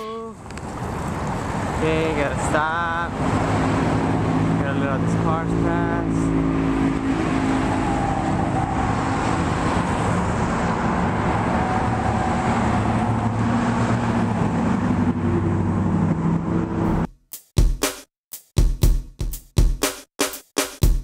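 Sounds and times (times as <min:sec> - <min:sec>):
cars passing: 0:00.0 - 0:17.1.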